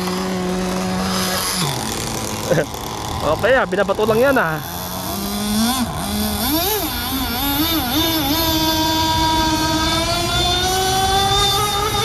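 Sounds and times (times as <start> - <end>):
model speedboat motor whine: 0.0 - 12.0.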